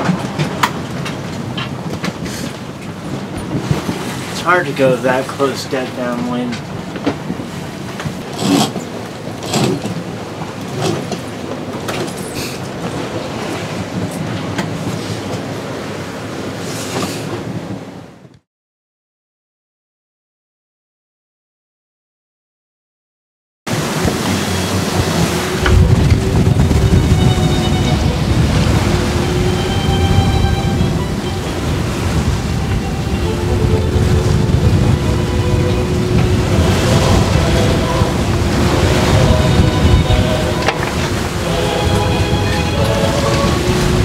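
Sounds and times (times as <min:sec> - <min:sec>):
water swishes: 0:00.0 - 0:18.1, 0:23.7 - 0:44.0
wind and water rushing: 0:00.0 - 0:18.3, 0:23.7 - 0:44.0.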